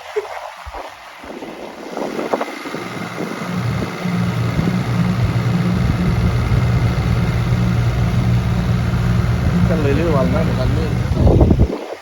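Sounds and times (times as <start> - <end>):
boat engine humming: 1.3 - 11.7.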